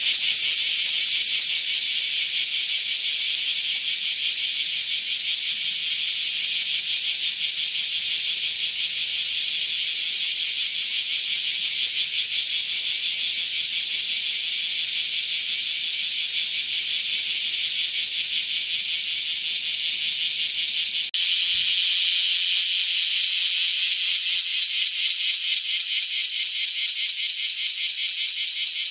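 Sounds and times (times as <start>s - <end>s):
cicada buzzing: 0.0s - 28.9s.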